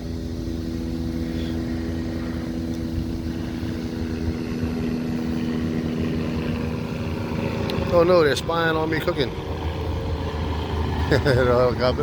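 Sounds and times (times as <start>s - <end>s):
wind rumbling on microphone: 0.0s - 11.2s
helicopter droning hum: 0.0s - 12.0s.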